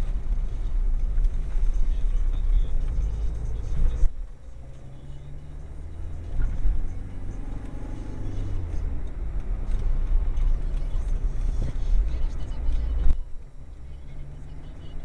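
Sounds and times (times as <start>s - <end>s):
car engine: 0.0s - 15.0s
road rumble: 0.0s - 15.0s.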